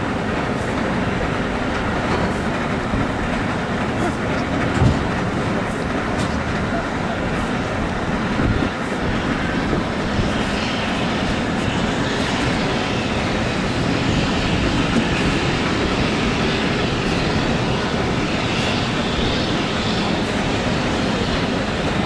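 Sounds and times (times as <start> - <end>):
large engine running: 0.0 - 22.0.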